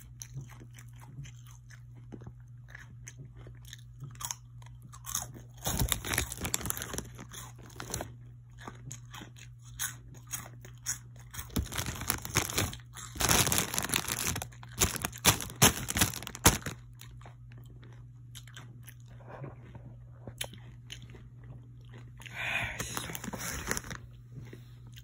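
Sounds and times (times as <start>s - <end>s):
chewing crunchy snack: 0.0s - 25.0s
steady low hum: 4.0s - 25.0s.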